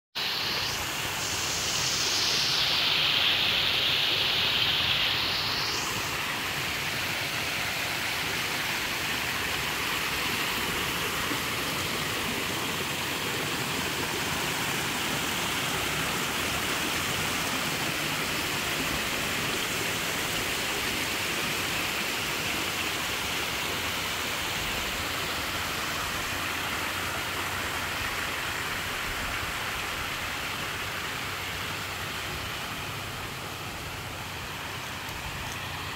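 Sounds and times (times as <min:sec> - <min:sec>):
waterfall splashing into pond: 0:00.2 - 0:35.9.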